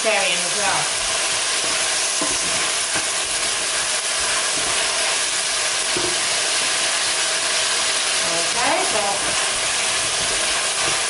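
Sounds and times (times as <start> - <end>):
vegetables sizzling in oil: 0.0 - 11.0
wooden spoon stirring vegetables: 0.0 - 11.0.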